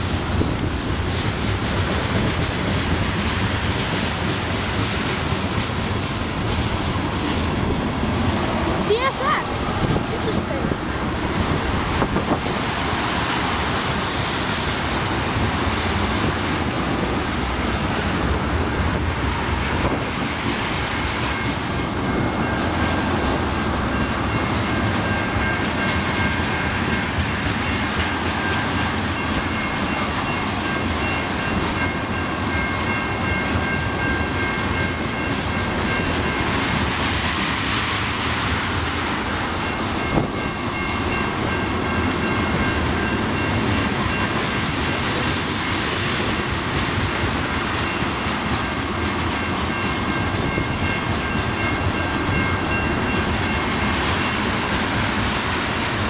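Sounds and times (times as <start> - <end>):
train wheels clattering: 0.0 - 56.0.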